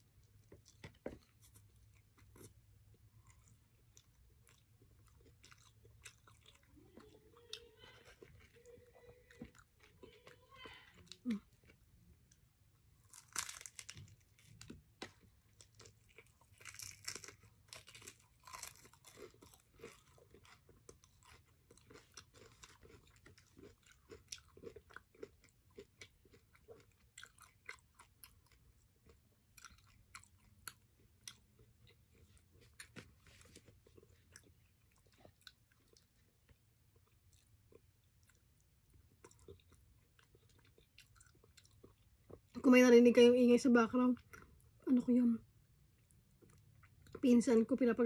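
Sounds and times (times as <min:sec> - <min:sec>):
person chewing crispy chicken: 0:00.0 - 0:42.6, 0:45.8 - 0:47.2.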